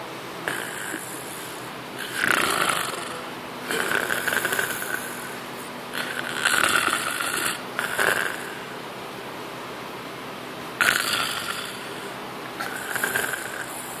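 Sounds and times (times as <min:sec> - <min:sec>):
loud rasping snores: 0:00.4 - 0:08.8, 0:10.8 - 0:14.0
quiet breathing: 0:00.5 - 0:08.9, 0:11.0 - 0:14.0.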